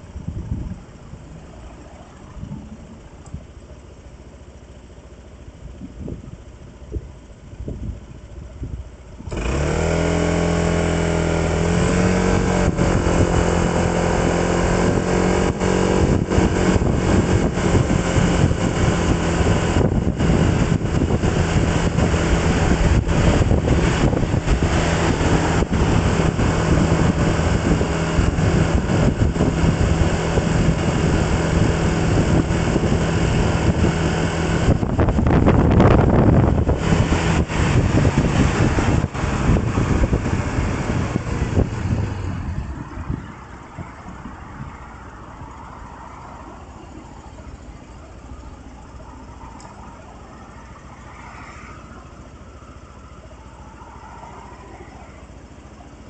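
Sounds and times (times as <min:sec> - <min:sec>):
wind noise on microphone: 0:00.0 - 0:03.6, 0:05.6 - 0:56.0
vehicle engine accelerating: 0:00.0 - 0:56.0.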